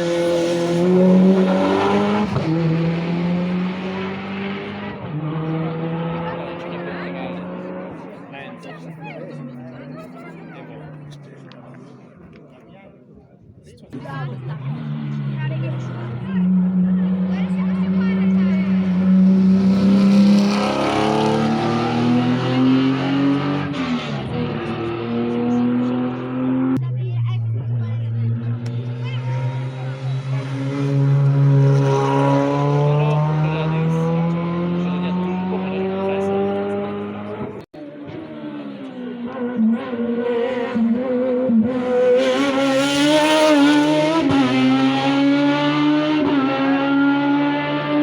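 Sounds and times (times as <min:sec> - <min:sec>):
rally car engine accelerating: 0:00.0 - 0:11.8, 0:13.9 - 0:48.0.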